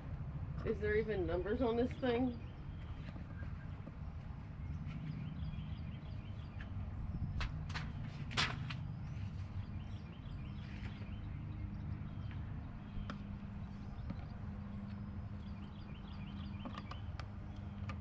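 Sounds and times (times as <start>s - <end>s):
low steady hum: 0.0s - 18.0s
small birds chirping: 0.6s - 18.0s.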